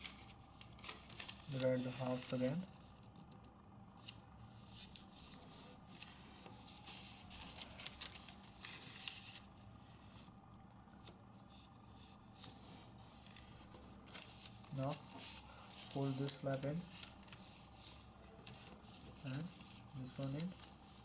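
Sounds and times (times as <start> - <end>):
paper rustling while folded: 0.0 - 3.2, 4.0 - 10.3, 11.0 - 21.0
paper crackling from creases: 0.0 - 3.4, 4.0 - 10.4, 11.0 - 21.0.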